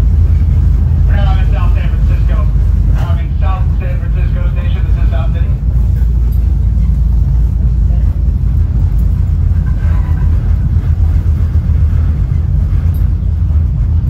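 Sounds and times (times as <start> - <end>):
train ride rumble from inside: 0.0 - 14.0.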